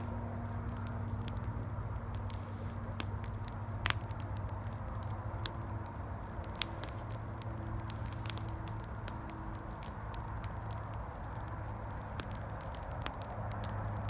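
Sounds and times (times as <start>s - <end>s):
campfire crackling and popping: 0.0s - 14.0s
highway traffic rumble: 0.0s - 14.0s.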